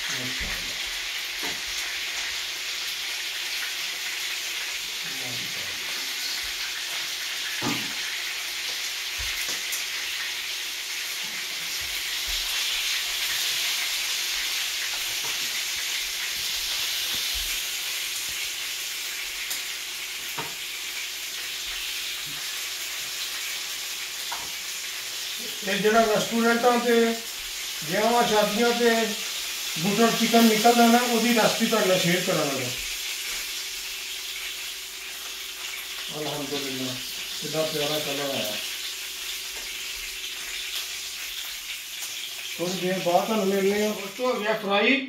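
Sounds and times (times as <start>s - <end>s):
chicken sizzling in hot oil: 0.0s - 44.9s.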